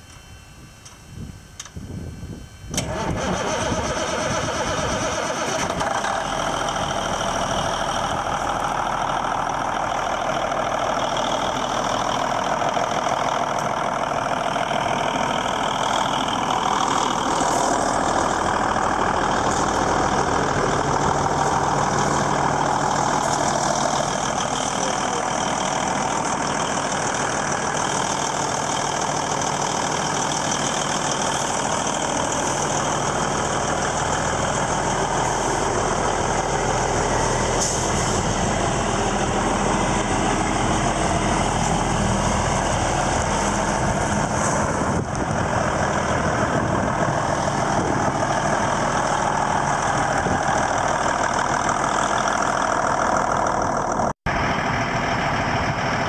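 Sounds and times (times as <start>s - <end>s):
diesel engine cranking and idling: 0.0s - 56.0s.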